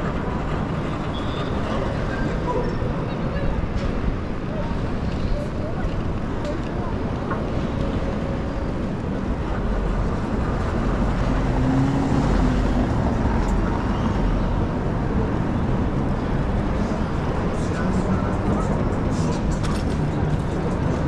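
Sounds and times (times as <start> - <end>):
engine passing close with low hum: 0.0 - 21.0
vehicles passing: 0.0 - 21.0.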